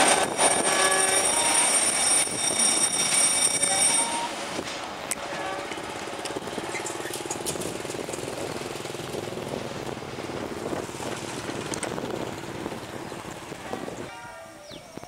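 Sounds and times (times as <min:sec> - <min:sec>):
train wheels rumbling on rails: 0:00.0 - 0:14.1.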